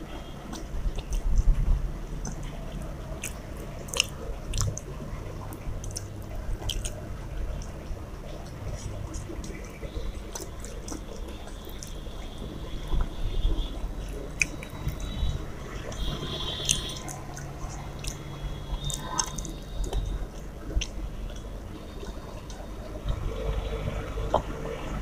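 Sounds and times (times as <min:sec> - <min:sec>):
wet squishing of food: 0:00.0 - 0:25.0.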